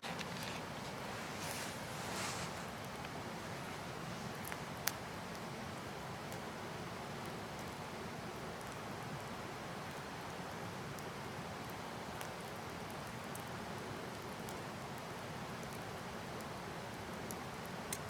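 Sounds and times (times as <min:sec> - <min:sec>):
campfire crackling and hissing: 0:00.0 - 0:18.0.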